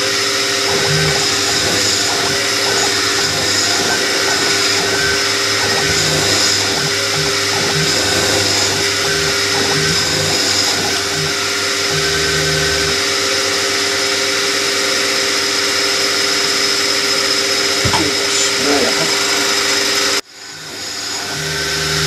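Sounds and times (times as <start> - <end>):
drill cutting workpiece: 0.0 - 22.0
lathe whining: 0.0 - 22.0.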